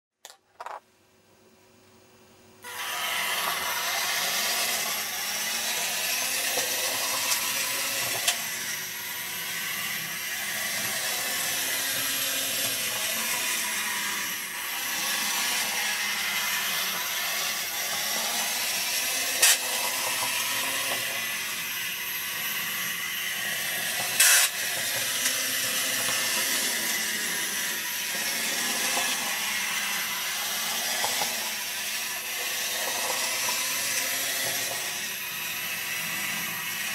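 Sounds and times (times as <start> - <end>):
small gear motors whirring: 2.6 - 36.9.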